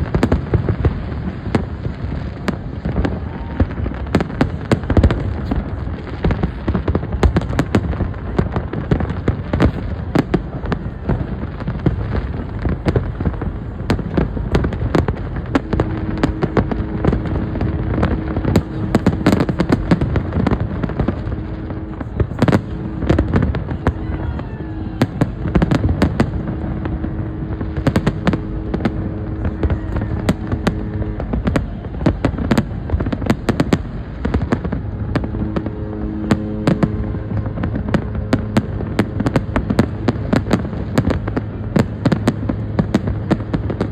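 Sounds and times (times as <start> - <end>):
fireworks bursts and crackle: 0.0 - 43.9
steady low tone: 0.0 - 43.9.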